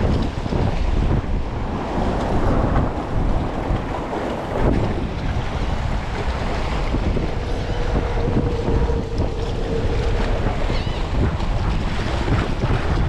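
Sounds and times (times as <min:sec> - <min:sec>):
open water: 0:00.0 - 0:13.0
wind buffeting microphone: 0:00.0 - 0:13.0.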